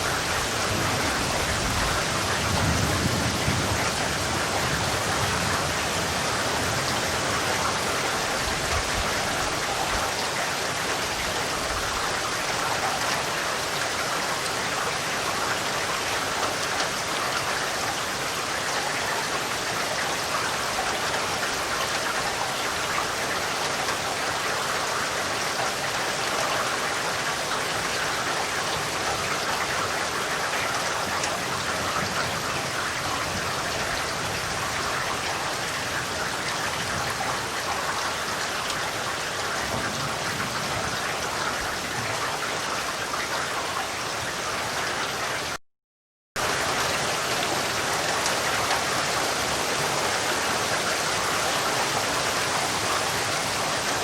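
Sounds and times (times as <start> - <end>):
steady rain hiss: 0.0 - 43.3, 46.4 - 54.0.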